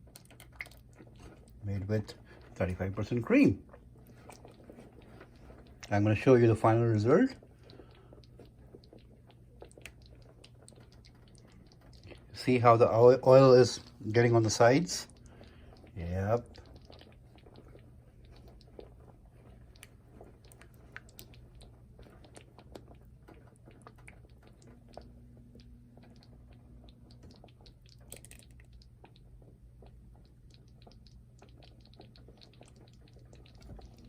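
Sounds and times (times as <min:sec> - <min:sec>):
curry simmering with small pops: 0:00.0 - 0:34.0
steady low hum: 0:00.0 - 0:34.0.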